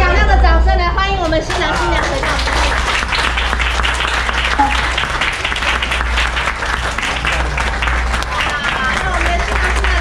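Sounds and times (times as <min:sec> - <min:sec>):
crowd applauding: 0:01.2 - 0:10.0
hands clapping close by: 0:01.5 - 0:10.0.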